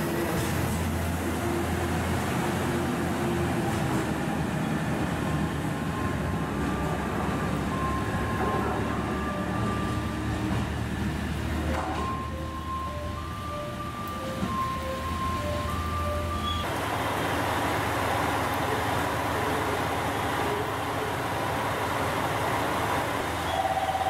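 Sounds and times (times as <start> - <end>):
diesel engine drone: 0.0 - 24.0
train wheels rumbling on rails: 0.0 - 24.0.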